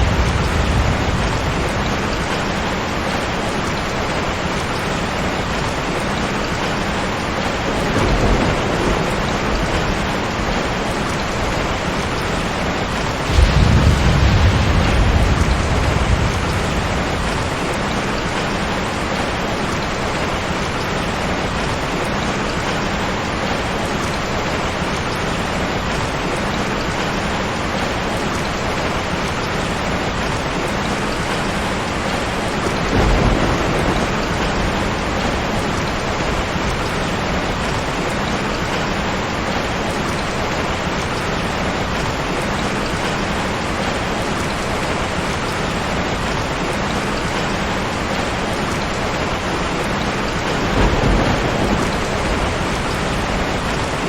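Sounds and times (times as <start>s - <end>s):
thunder rumbling: 0.0s - 21.7s, 29.8s - 54.0s
heavy rain: 0.0s - 54.0s.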